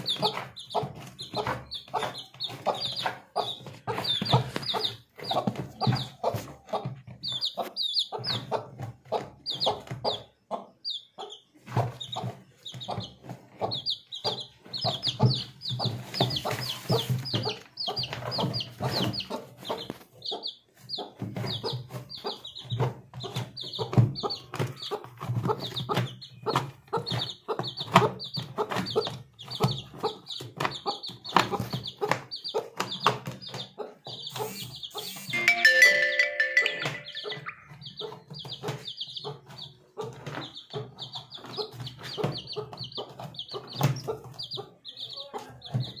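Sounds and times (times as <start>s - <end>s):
chicks peeping: 0.0s - 46.0s
hen clucking: 0.0s - 46.0s.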